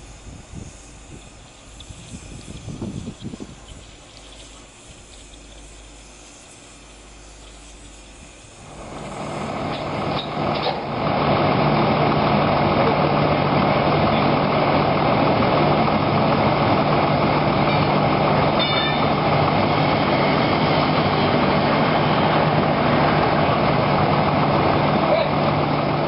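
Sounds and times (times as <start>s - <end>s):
diesel engine humming: 0.0s - 26.0s.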